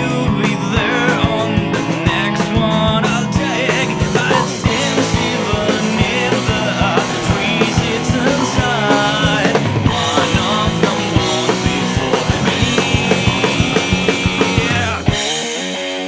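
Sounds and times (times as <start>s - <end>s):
bending lead guitar lines: 0.0s - 16.0s
drum kit steady beat: 0.0s - 16.0s
rock band playing: 0.0s - 16.0s.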